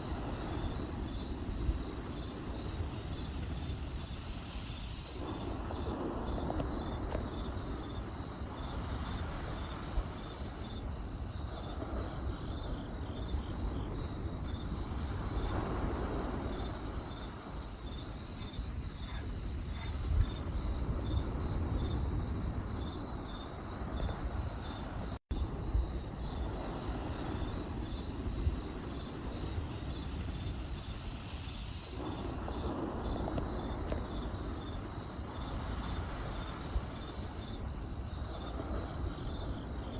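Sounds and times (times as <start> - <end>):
campfire rumbling and crackling: 0.0 - 39.9
crickets chirping: 0.0 - 39.9.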